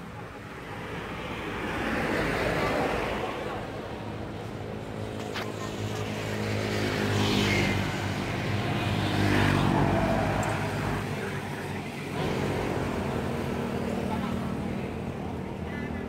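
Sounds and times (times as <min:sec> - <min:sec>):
motor scooters passing by: 0:00.2 - 0:16.0.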